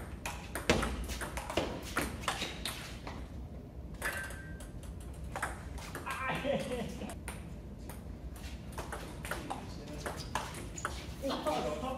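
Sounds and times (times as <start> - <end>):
ping pong ball hitting bats: 0.0 - 3.2, 3.9 - 11.7.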